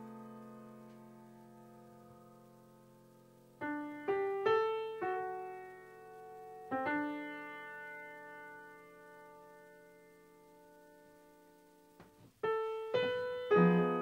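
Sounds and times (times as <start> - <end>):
soft piano notes: 0.0 - 14.0.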